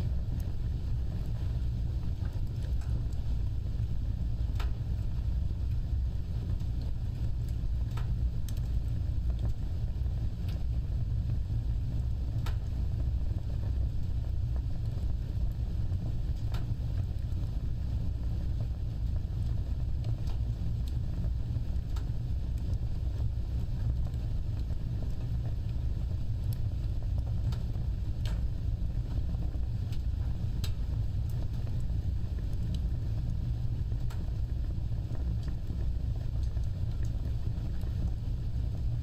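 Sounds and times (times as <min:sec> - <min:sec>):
low rumble of flames: 0:00.0 - 0:39.0
wood fire crackles and pops: 0:00.0 - 0:39.0.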